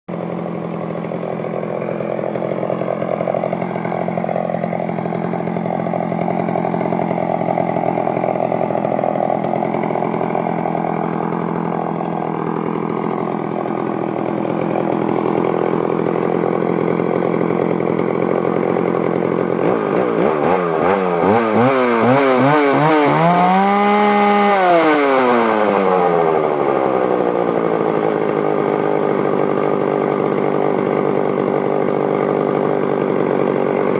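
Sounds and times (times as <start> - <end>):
chainsaw revving and idling: 0.1 - 33.9.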